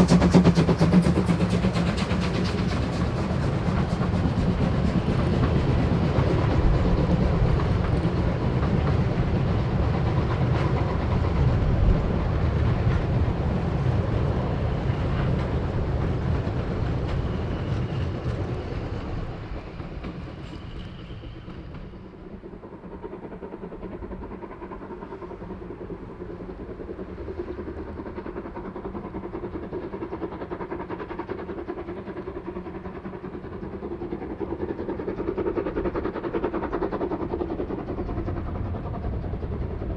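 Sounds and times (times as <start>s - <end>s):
steam train running on track: 0.0s - 39.9s.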